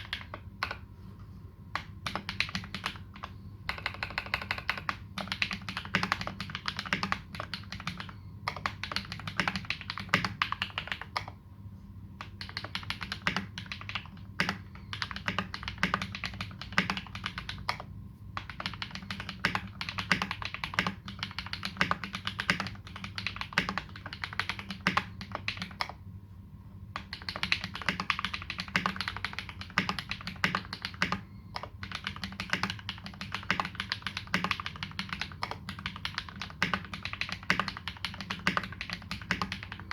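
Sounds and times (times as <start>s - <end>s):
mechanical keyboard typing: 0.0s - 0.8s, 1.7s - 11.4s, 12.2s - 26.0s, 26.9s - 39.9s.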